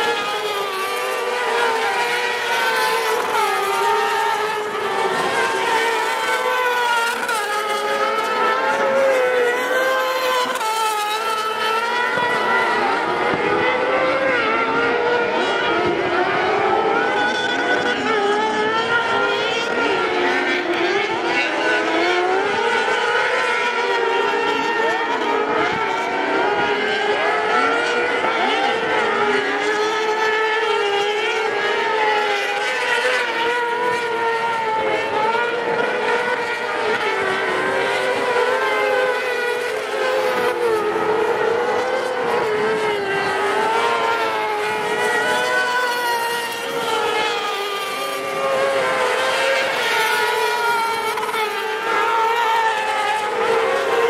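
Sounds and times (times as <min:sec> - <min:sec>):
buggy engines revving: 0:00.0 - 0:54.0.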